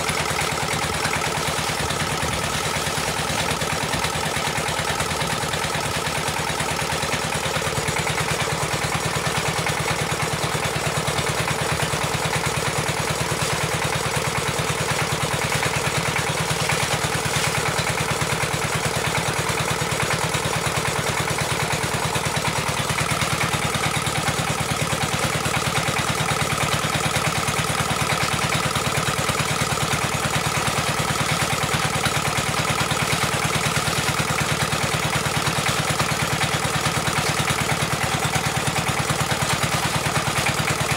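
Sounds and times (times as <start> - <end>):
drilling rig engine running: 0.0 - 40.9.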